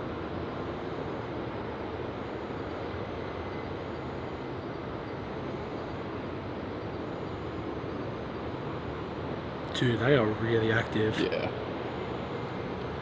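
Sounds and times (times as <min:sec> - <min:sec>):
steady outdoor roar: 0:00.0 - 0:13.0.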